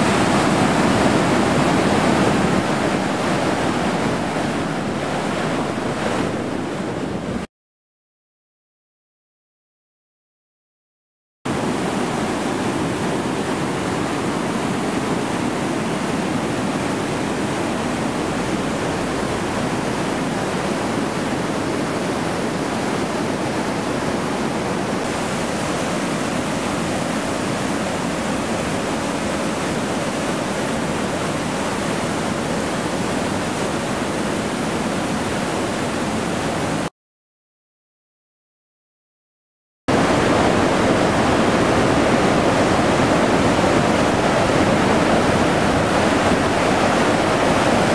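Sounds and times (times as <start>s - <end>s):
water rushing through spillway: 0.0s - 7.0s, 11.5s - 36.9s, 39.9s - 47.9s.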